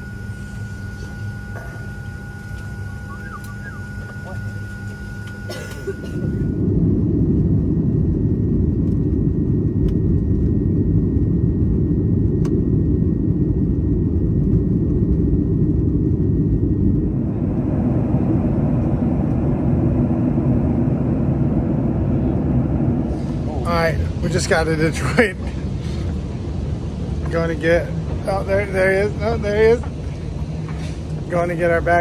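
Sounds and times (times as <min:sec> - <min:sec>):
jet engines rumbling: 0:00.0 - 0:32.0.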